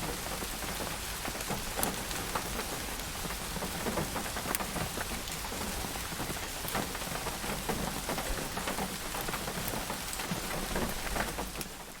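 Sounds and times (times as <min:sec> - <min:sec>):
rain on hard surface: 0:00.0 - 0:12.0.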